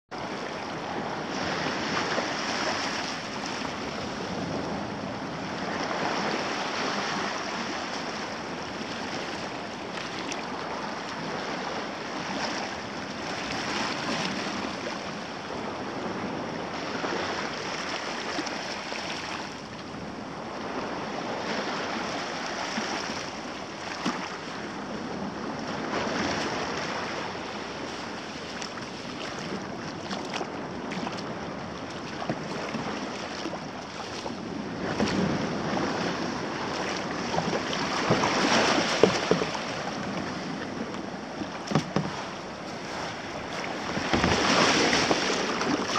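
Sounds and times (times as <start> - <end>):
waves lapping against rocks: 0.2 - 45.9.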